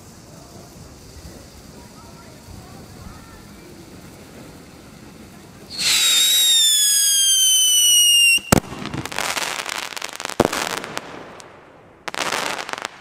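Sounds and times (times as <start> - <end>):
firework bang: 0.0 - 13.0
firework crackling: 0.0 - 13.0
firework whistling: 0.0 - 13.0.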